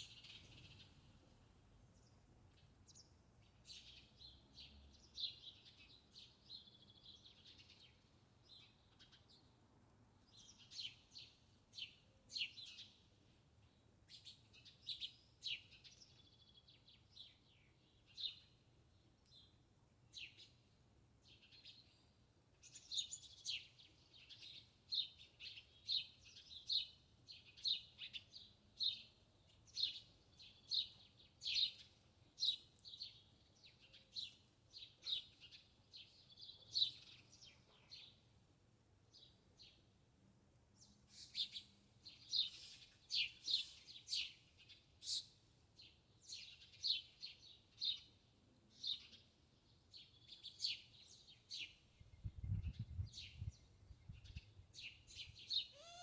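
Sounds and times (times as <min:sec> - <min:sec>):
small birds chirping: 0:00.0 - 0:01.2, 0:01.9 - 0:09.6, 0:10.2 - 0:20.6, 0:21.2 - 0:38.4, 0:39.0 - 0:40.0, 0:40.6 - 0:56.0.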